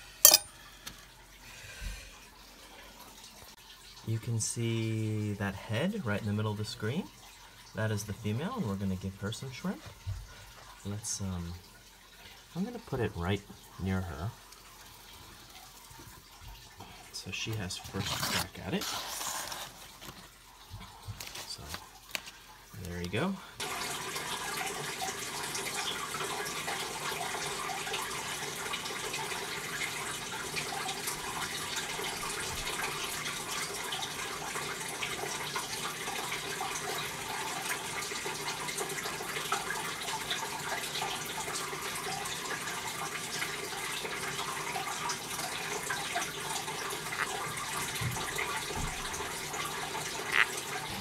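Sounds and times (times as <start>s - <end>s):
running water trickle: 0.0s - 51.0s.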